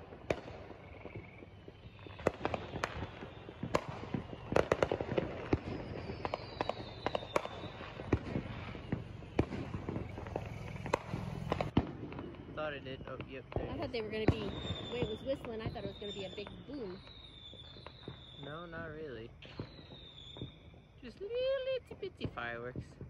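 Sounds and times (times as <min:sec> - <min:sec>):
firecrackers popping and banging: 0:00.0 - 0:23.0
whistling firework: 0:00.0 - 0:23.0.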